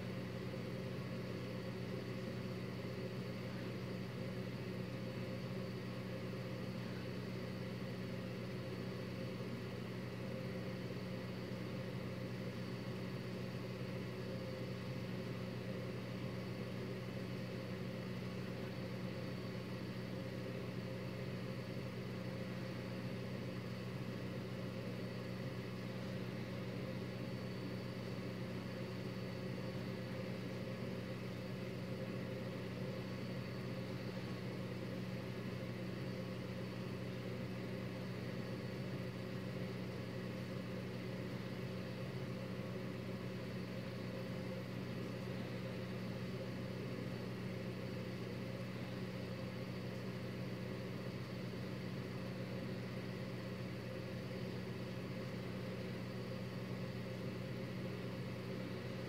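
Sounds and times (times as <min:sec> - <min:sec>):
faint high whine: 0:00.0 - 0:59.0
steady low hum: 0:00.0 - 0:59.0.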